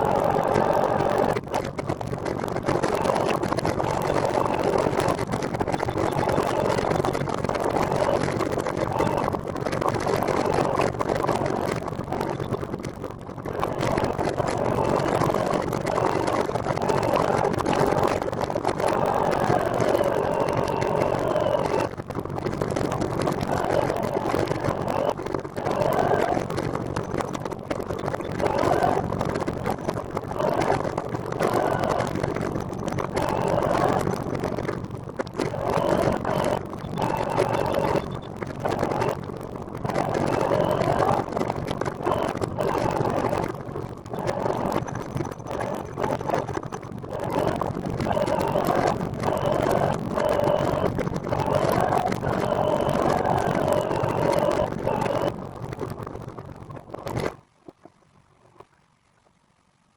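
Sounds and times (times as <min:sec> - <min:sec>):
wind noise: 0:00.0 - 0:57.8.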